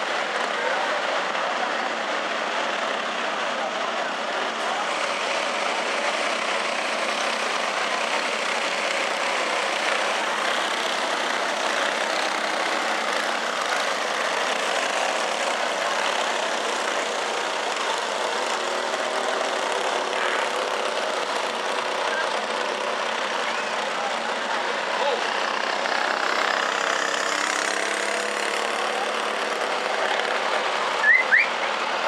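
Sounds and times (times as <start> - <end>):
racing kart engines: 0.0 - 32.0.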